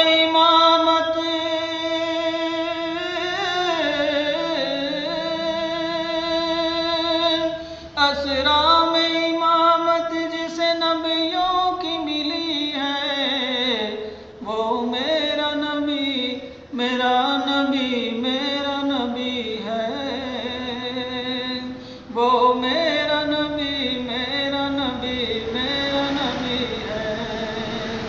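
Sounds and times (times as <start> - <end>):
person singing devotional song: 0.0 - 28.0.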